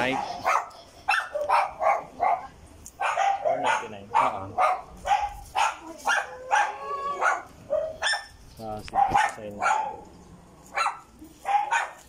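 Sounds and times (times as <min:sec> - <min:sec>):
dog barking: 0:00.0 - 0:08.3, 0:08.9 - 0:10.1, 0:10.7 - 0:12.0.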